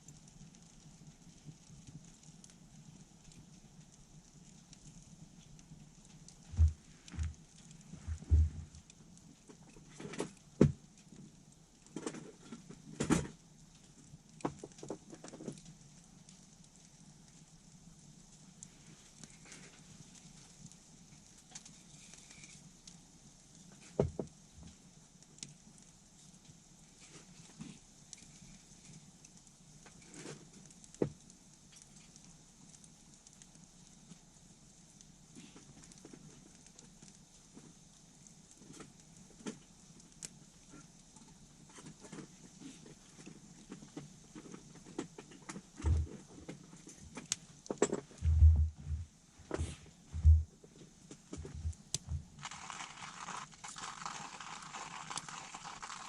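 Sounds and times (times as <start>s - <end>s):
campfire crackling: 0.0s - 56.0s
faint fire hiss: 0.0s - 56.0s.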